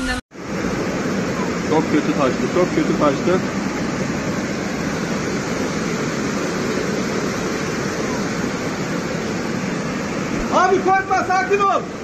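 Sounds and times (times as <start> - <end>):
floodwater rushing: 0.4 - 12.0.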